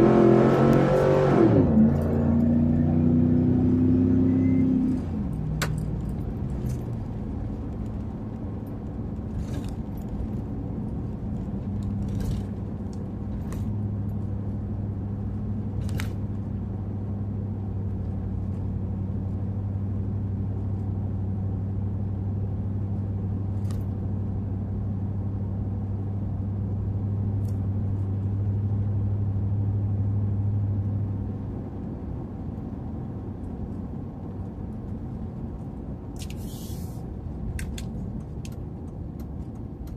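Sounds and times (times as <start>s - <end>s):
engine and road noise drone: 0.0s - 39.9s.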